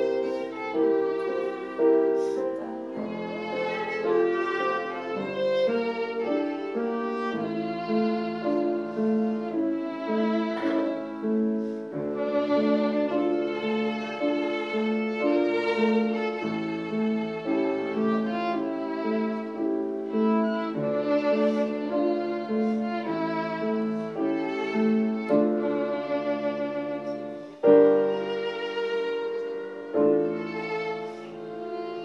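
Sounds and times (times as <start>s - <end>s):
grand piano chords: 0.0s - 32.0s
violin playing a hymn melody: 0.0s - 32.0s.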